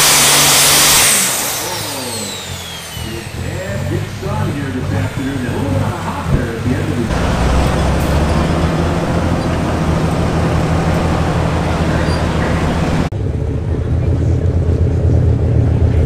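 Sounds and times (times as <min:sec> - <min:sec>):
engine hiss: 0:00.0 - 0:13.1
diesel tractor engine idling: 0:01.1 - 0:16.0.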